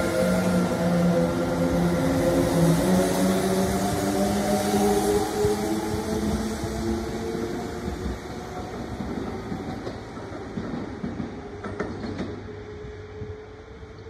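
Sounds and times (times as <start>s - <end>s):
train running along track: 0.0s - 14.0s.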